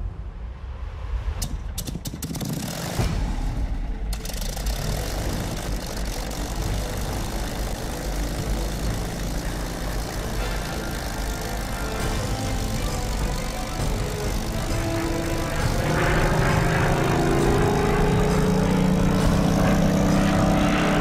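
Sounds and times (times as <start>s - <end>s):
aircraft engine running: 1.0s - 21.0s.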